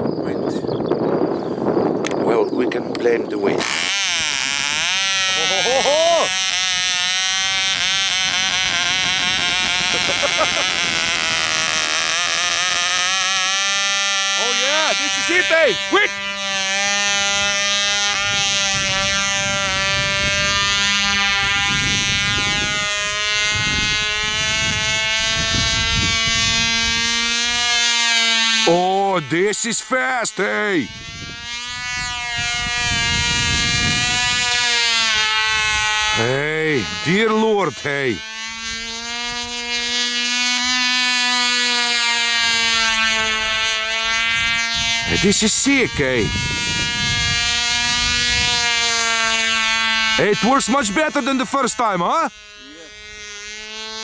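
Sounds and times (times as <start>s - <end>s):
wind gusts on microphone: 0.0s - 13.3s, 14.5s - 27.7s, 30.8s - 40.4s, 42.5s - 51.0s
model airplane engine buzzing: 0.0s - 54.0s.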